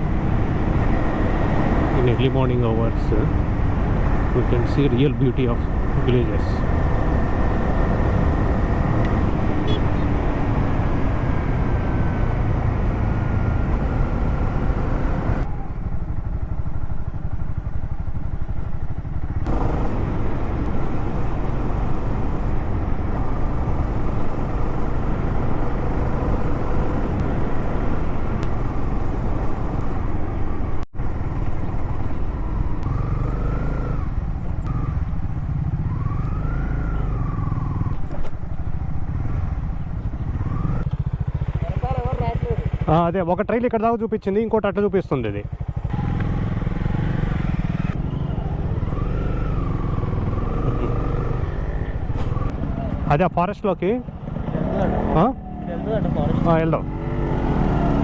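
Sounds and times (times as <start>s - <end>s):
motorcycle engine rumble: 0.0s - 58.0s
wind and road noise: 0.0s - 58.0s.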